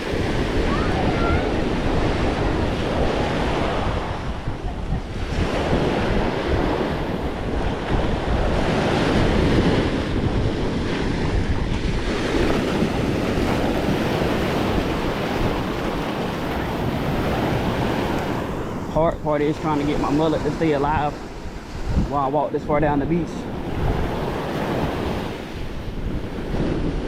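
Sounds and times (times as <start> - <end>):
ocean surf washing on beach: 0.0 - 27.0
wind buffeting microphone: 0.0 - 27.0.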